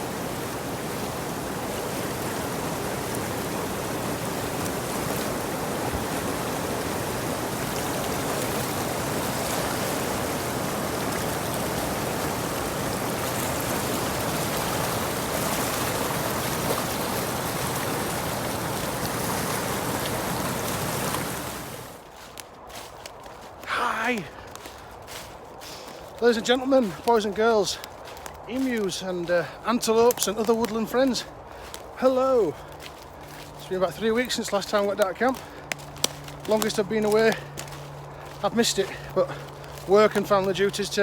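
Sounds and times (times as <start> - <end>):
rushing water: 0.0 - 22.1, 25.9 - 41.0.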